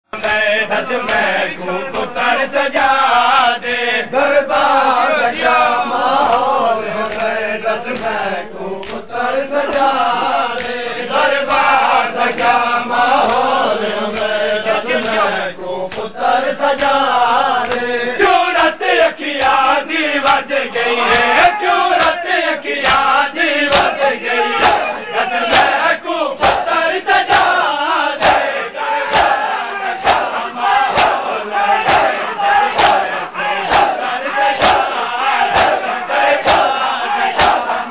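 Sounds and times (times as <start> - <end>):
men chanting together: 0.1 - 37.9
rhythmic chest-beating slaps: 0.2 - 37.9.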